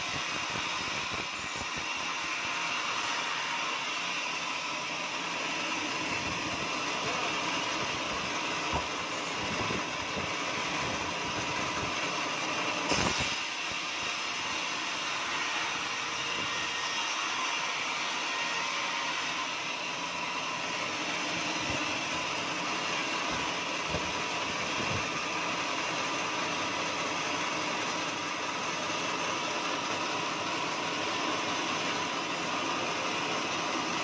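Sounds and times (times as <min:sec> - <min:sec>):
band saw cutting log: 0:00.0 - 0:34.0.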